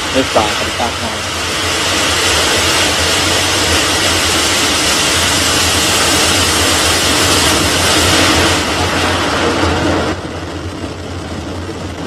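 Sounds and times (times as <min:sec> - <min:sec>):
rocket engines roaring: 0:00.0 - 0:12.0.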